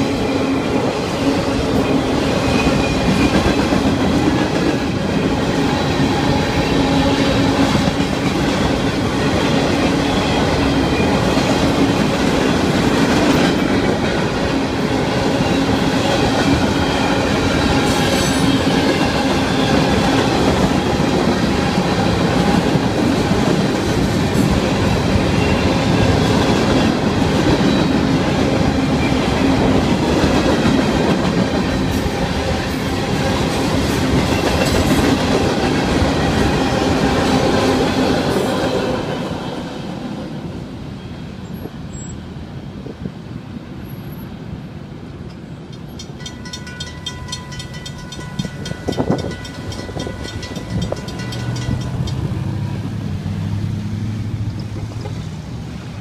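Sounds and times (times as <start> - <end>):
freight cars rolling on rails: 0.0 - 56.0.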